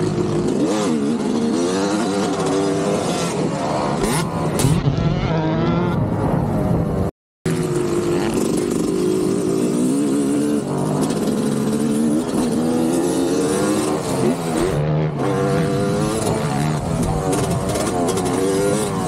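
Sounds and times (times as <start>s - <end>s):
dirt bike engine revving: 0.0s - 6.7s, 7.5s - 19.0s.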